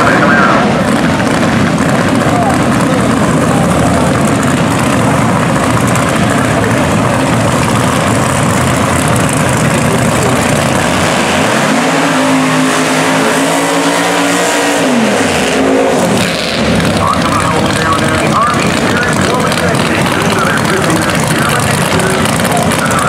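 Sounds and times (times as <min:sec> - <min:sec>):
drag car engine revving: 0:00.0 - 0:23.0.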